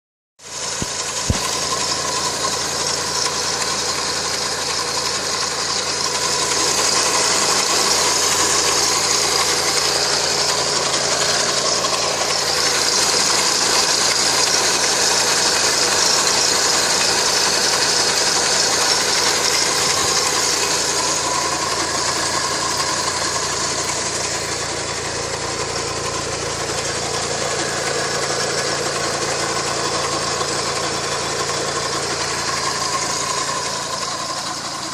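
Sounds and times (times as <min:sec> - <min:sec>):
car engine running: 0:00.4 - 0:34.9.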